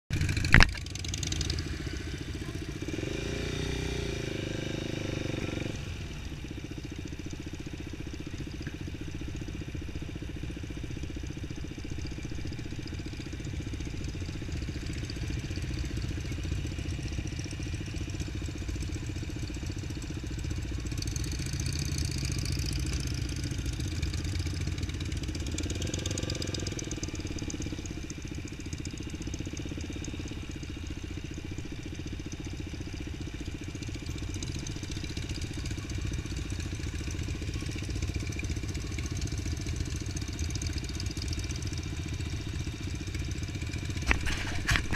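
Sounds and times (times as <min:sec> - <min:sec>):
motorcycle engine close by: 0:00.1 - 0:44.9
other motorcycles riding: 0:00.1 - 0:44.9.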